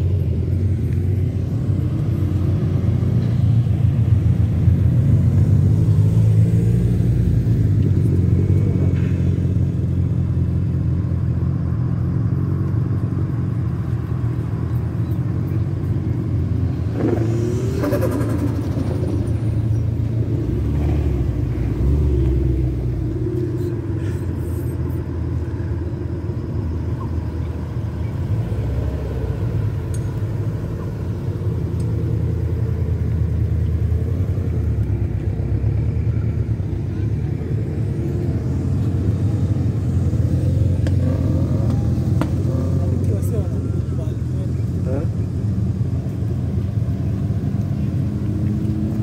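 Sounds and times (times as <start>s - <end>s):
car engines and exhausts rumbling: 0.0s - 49.0s.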